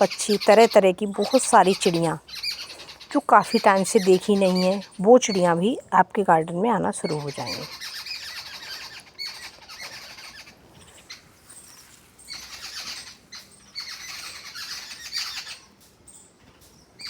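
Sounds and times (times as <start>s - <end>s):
small birds chirping and squawking: 0.0s - 17.0s.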